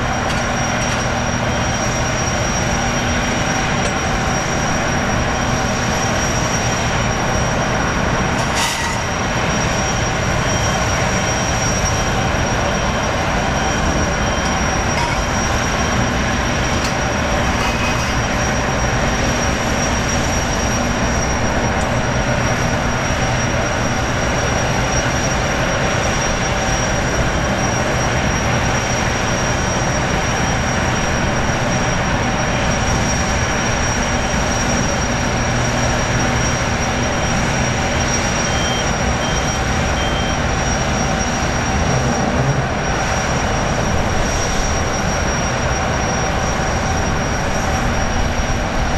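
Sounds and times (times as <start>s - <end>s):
gas turbine whine: 0.0s - 48.9s
rush of engines and water jets: 0.0s - 48.9s.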